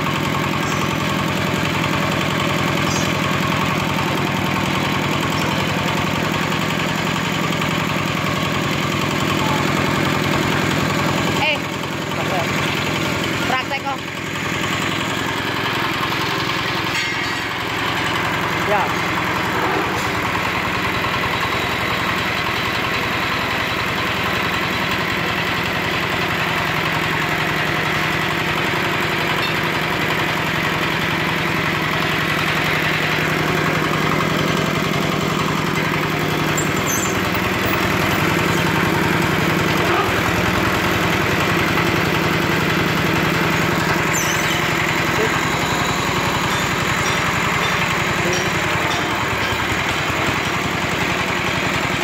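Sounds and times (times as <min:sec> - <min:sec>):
lift hoist engine running: 0:00.0 - 0:52.0.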